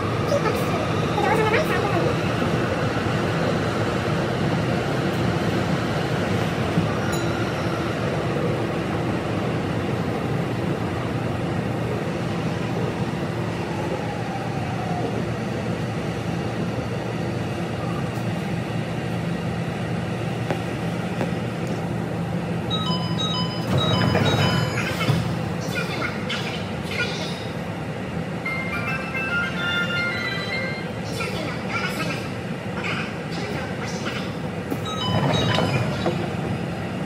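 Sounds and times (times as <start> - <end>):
train rail rumble: 0.0 - 37.0.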